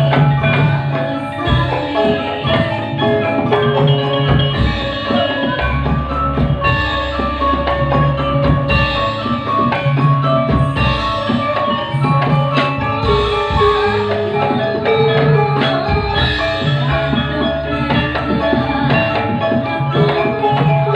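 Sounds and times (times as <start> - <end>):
gamelan ensemble with drums: 0.0 - 20.9
steady bass line: 0.0 - 20.9.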